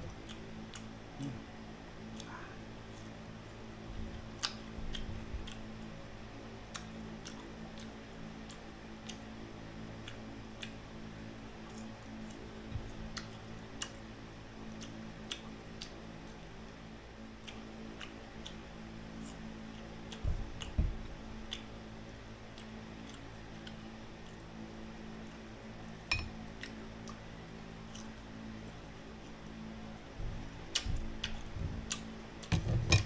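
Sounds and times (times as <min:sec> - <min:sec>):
crunchy chewing: 0:00.0 - 0:32.6
steady low hum: 0:00.0 - 0:33.0.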